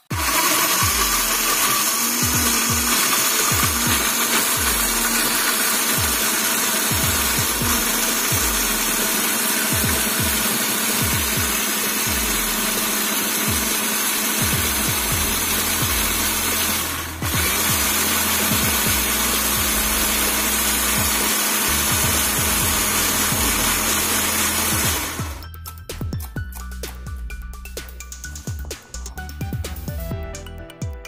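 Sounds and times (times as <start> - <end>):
blender grinding paste: 0.0 - 25.4.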